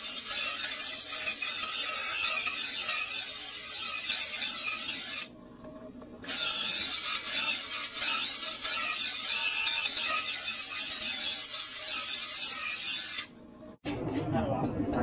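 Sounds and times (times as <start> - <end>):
knife blade on grinding wheel: 0.0 - 5.4, 6.2 - 13.4.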